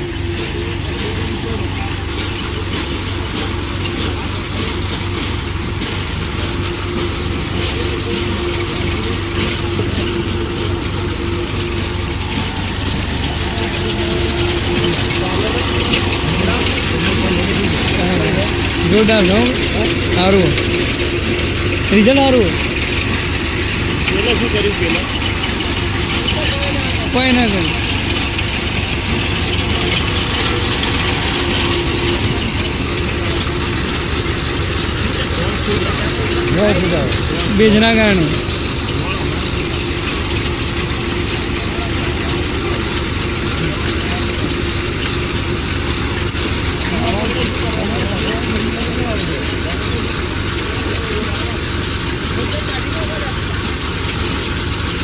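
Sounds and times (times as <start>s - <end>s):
constant machine whine: 0.0s - 55.0s
engine drone: 0.0s - 55.0s.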